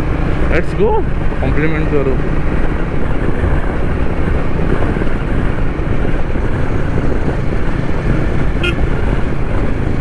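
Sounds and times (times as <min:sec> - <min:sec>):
motorcycle engine and road noise: 0:00.0 - 0:10.0
wind rush on microphone: 0:00.0 - 0:10.0.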